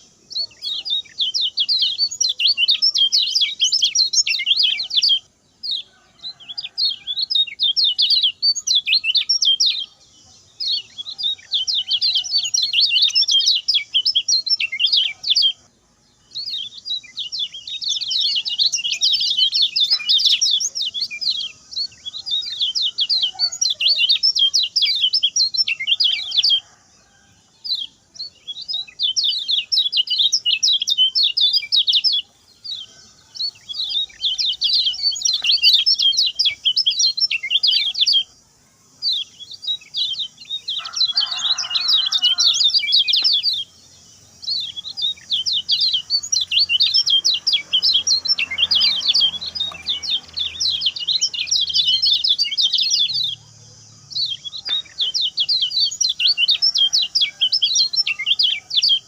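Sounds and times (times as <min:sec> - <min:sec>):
bird chirping high phrases: 0:00.0 - 0:26.8, 0:27.6 - 0:59.0.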